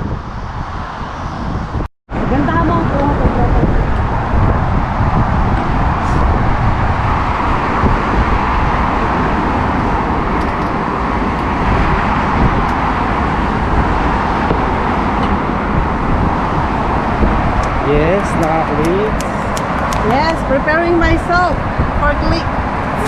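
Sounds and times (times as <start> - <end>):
road traffic: 0.0 - 23.0
wind on microphone: 0.0 - 23.0.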